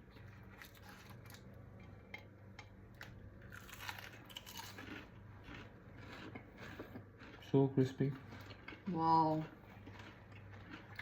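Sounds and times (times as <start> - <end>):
crunching and chewing fried food: 0.0 - 11.0.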